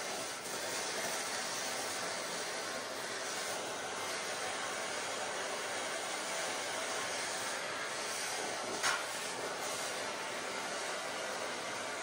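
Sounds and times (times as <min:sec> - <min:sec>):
torch flame burning: 0:00.0 - 0:12.0.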